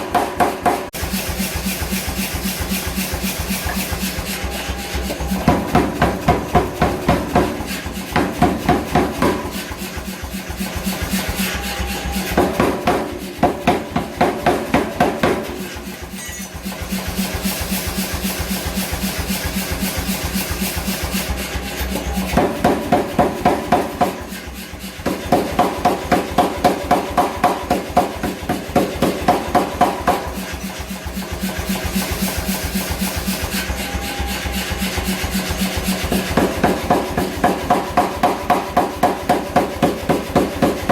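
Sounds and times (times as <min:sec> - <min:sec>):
hammer blows forging iron: 0:00.0 - 0:40.9
steady machine hum: 0:00.9 - 0:40.9.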